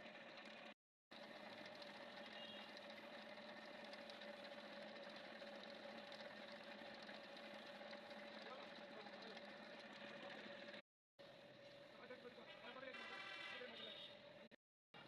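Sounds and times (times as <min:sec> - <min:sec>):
faint machine hum: 0:00.0 - 0:12.7.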